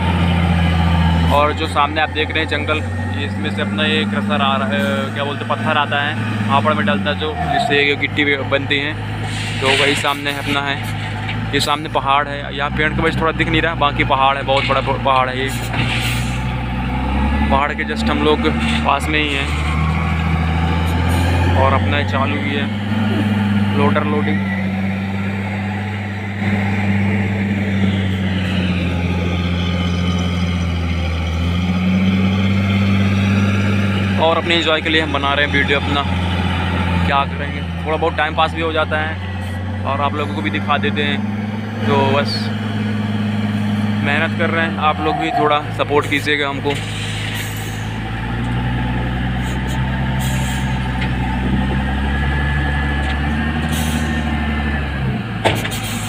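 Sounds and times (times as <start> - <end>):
diesel engines humming: 0.0 - 56.0.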